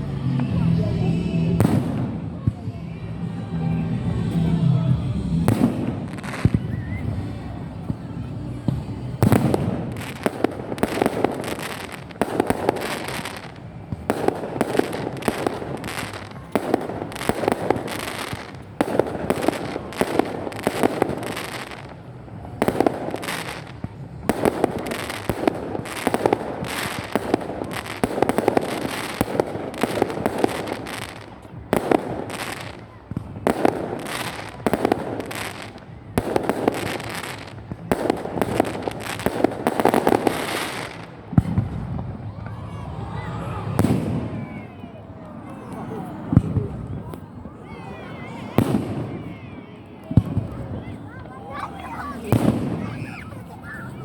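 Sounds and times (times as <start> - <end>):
fireworks crackling: 0.0 - 54.0.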